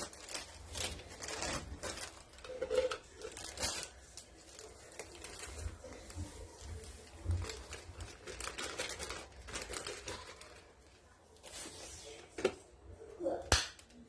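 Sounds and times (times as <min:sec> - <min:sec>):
rustling and crinkling handling: 0:00.0 - 0:13.1.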